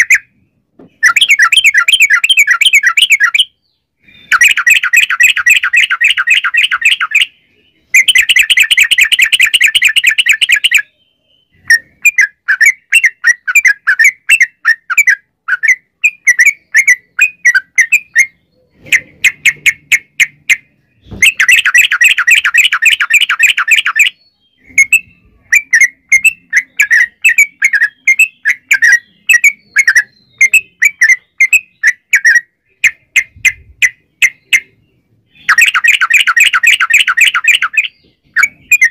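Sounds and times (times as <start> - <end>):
bulbul singing chattering notes: 0.0 - 38.9.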